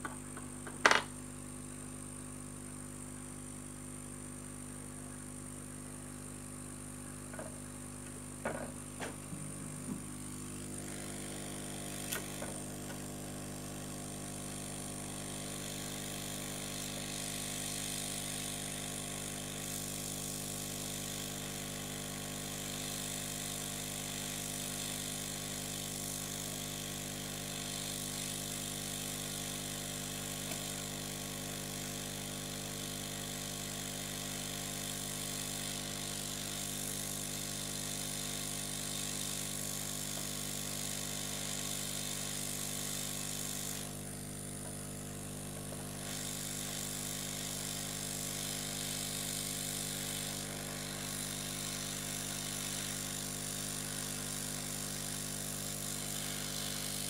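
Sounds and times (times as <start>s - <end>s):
hot air gun blowing: 7.3s - 57.0s.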